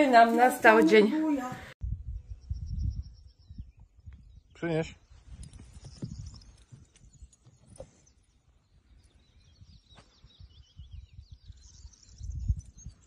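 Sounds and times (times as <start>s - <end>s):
birds chirping and singing: 2.1s - 13.0s.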